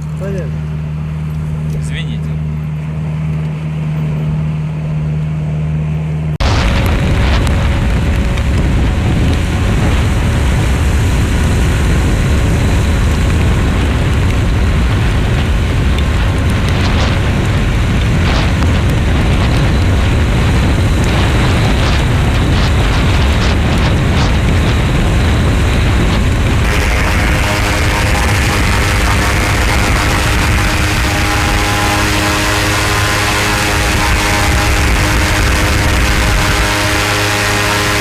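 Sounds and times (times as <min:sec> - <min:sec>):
wind buffeting microphone: 0:06.4 - 0:38.0.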